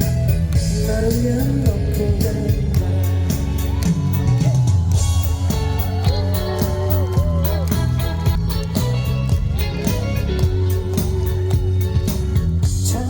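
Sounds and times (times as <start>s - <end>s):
bass line: 0.0s - 13.0s
drum and cymbal beat: 0.0s - 13.0s
gliding melodic lead line: 0.0s - 13.0s.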